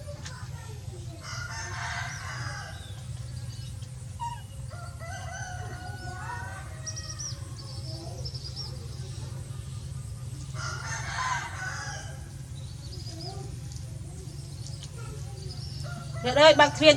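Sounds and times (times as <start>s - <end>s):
birds calling: 0.0s - 16.9s.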